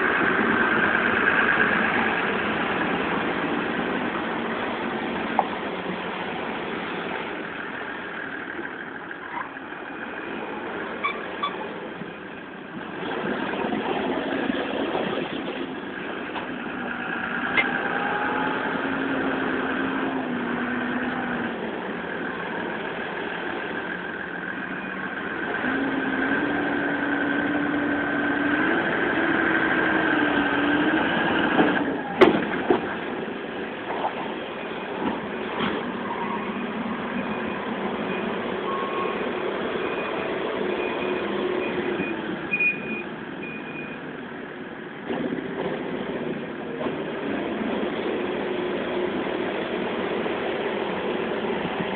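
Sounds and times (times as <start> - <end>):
tractor diesel engine revving: 0.0 - 42.5.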